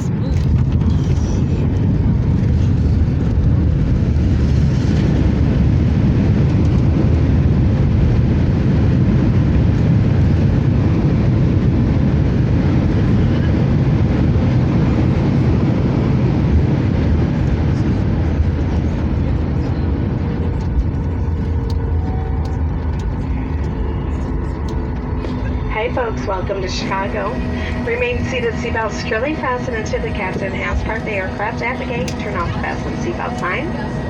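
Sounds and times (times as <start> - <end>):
airplane cabin engine roar: 0.0 - 34.0.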